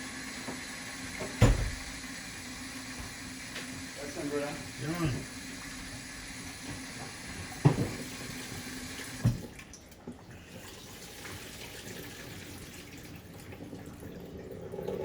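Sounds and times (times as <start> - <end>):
tap water running into sink: 0.0 - 15.0.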